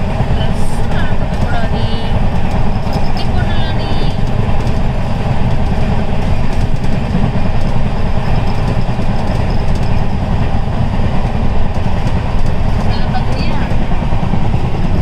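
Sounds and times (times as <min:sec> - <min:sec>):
train carriage running noise: 0:00.0 - 0:15.0
wheels clattering on rails: 0:00.0 - 0:15.0.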